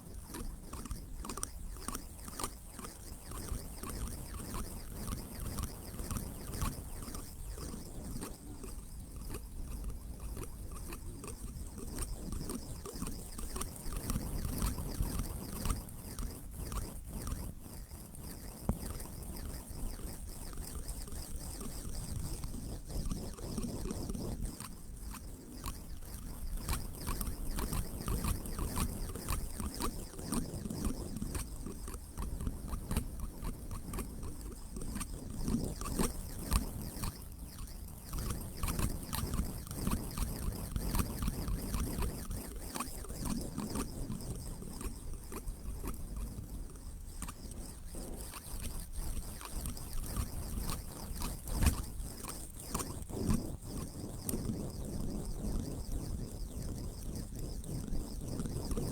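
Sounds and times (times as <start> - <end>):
faint ticks and crackles: 0.0 - 58.9.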